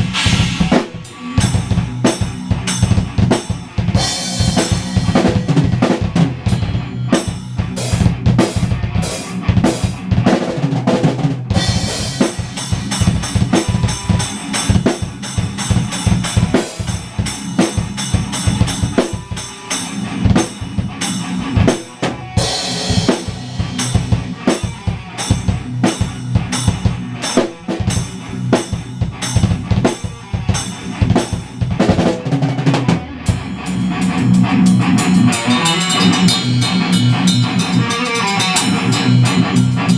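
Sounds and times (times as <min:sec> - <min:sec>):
rock drum kit playing: 0:00.0 - 0:39.9.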